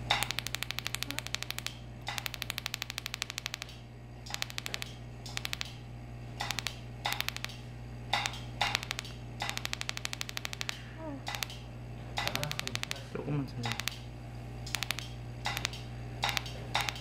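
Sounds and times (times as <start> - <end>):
electric pen sparking clicks: 0.0 - 5.8, 6.4 - 13.0, 13.6 - 17.0
low hum: 0.0 - 17.0.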